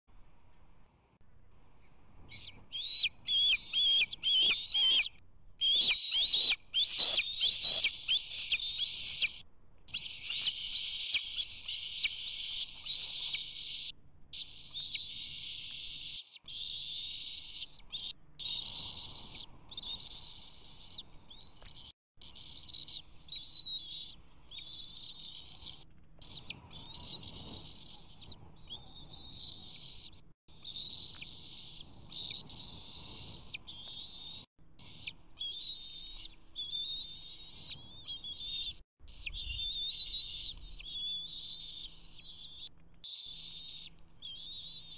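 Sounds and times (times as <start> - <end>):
eaglets food-begging calls: 2.3 - 44.9.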